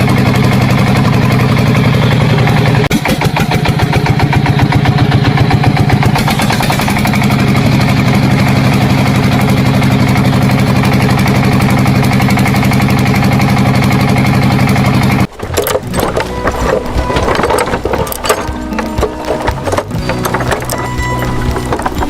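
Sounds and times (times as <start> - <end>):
engine running with pulsing beat: 0.0 - 22.0.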